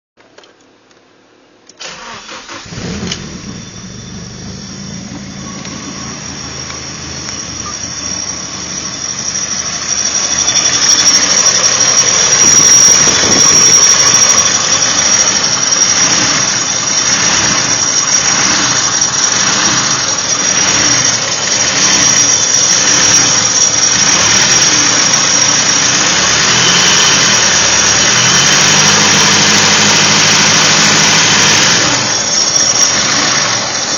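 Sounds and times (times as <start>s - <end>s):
car engine running: 1.8s - 33.9s
high-pitched scraping squeal: 1.8s - 33.9s.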